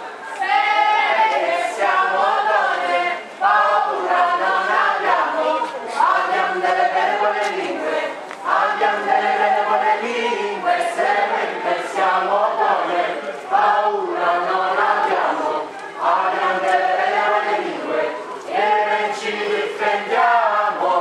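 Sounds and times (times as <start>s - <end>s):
group singing in unison: 0.0s - 21.0s.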